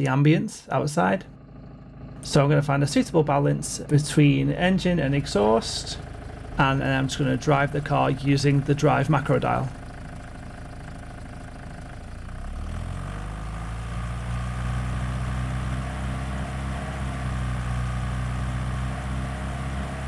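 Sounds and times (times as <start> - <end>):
car engine idling and revving: 1.0 - 20.0.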